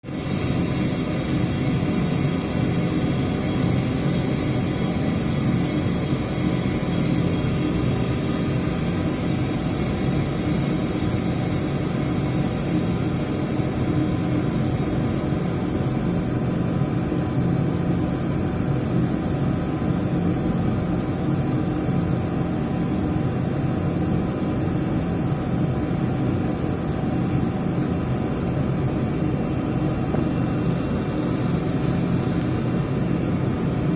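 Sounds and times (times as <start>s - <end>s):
steam boiler droning: 0.0s - 33.9s.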